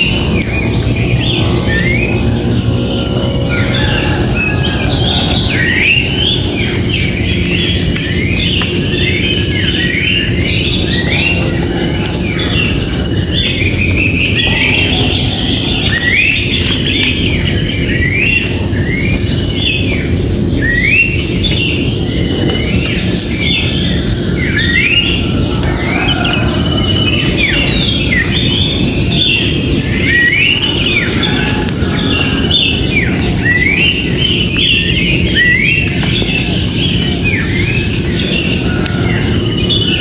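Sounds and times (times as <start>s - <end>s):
birds chirping: 0.0s - 40.0s
insect drone: 0.0s - 40.0s
low rumble: 0.0s - 40.0s.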